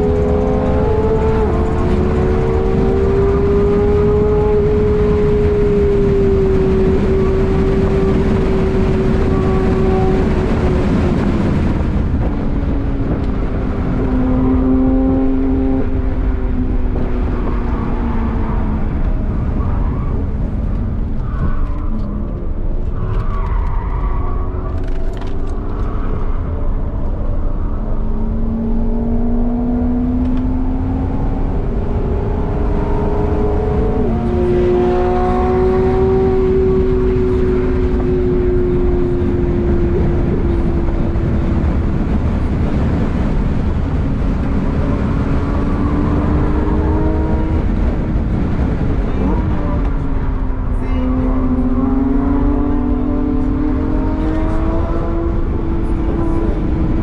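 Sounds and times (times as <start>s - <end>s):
car engine at full pace: 0.0s - 57.0s
wind and road noise in cabin: 0.0s - 57.0s.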